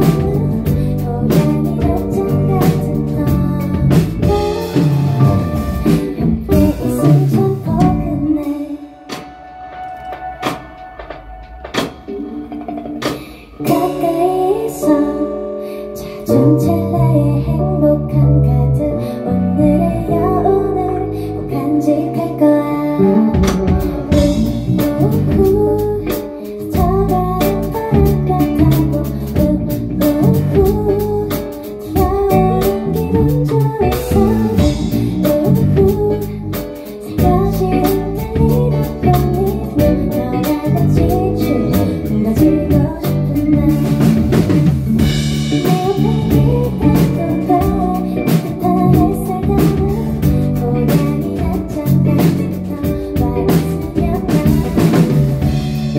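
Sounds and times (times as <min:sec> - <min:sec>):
woman singing: 0:00.0 - 0:12.0, 0:13.0 - 0:55.9
drums: 0:00.0 - 0:55.9
guitar: 0:00.0 - 0:55.9.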